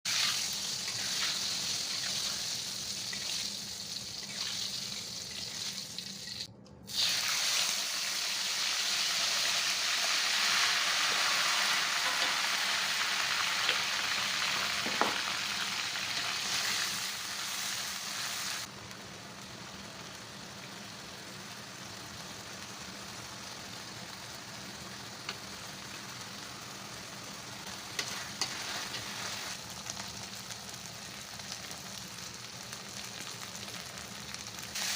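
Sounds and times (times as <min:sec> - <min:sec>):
food sizzling in hot oil: 0:00.1 - 0:34.9.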